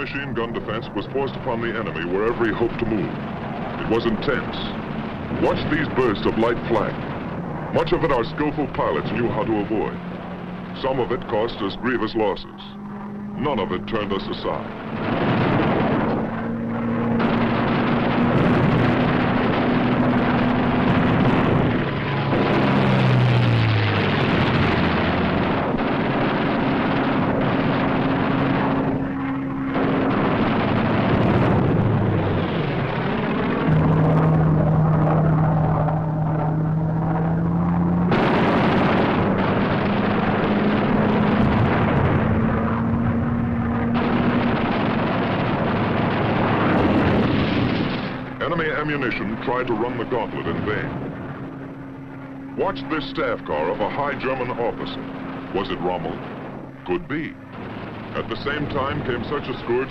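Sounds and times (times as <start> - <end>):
propeller plane engines droning: 0.0 - 59.9.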